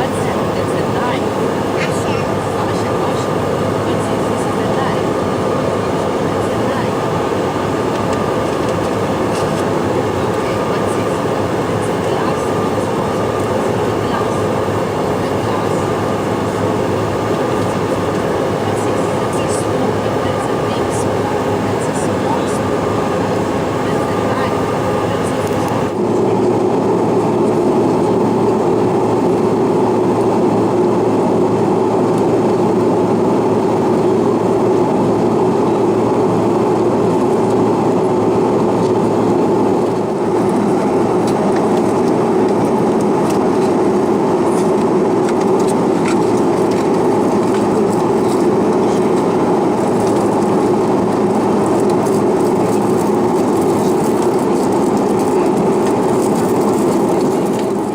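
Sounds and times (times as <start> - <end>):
airliner cabin engine hum: 0.0 - 57.9.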